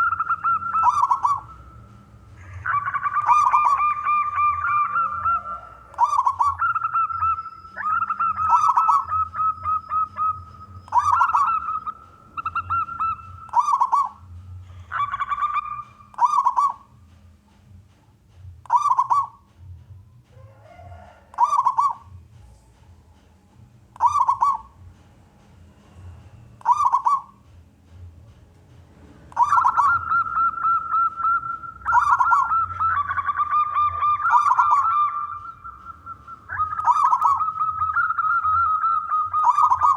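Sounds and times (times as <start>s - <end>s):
dove cooing: 0.0s - 17.0s, 18.7s - 19.5s, 20.3s - 22.3s, 24.0s - 25.0s, 25.9s - 27.5s, 29.1s - 39.9s.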